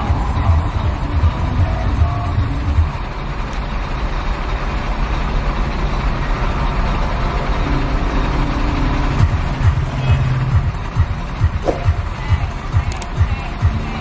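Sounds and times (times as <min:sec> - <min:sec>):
street noise: 0:00.0 - 0:14.0
truck engines idling: 0:00.0 - 0:14.0.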